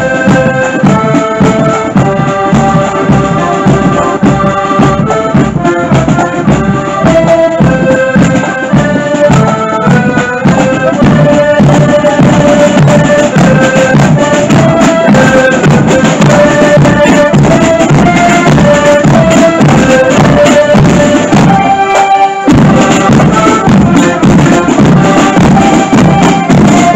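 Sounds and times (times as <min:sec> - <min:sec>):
accordions playing marching tune: 0:00.0 - 0:26.9
drums marching beat: 0:00.0 - 0:26.9.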